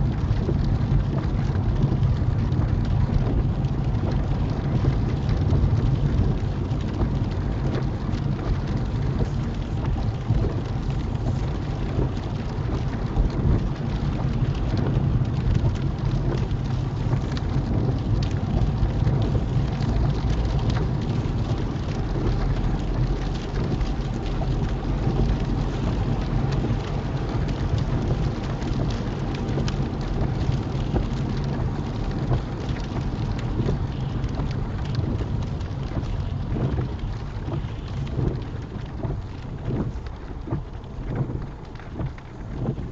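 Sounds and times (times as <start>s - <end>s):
rain ticking on windscreen: 0.0s - 42.9s
road and engine rumble: 0.0s - 42.9s.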